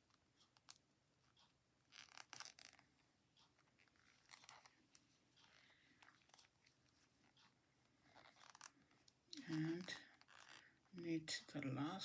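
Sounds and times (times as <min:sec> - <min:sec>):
knitting needles clicking: 0:00.0 - 0:12.0.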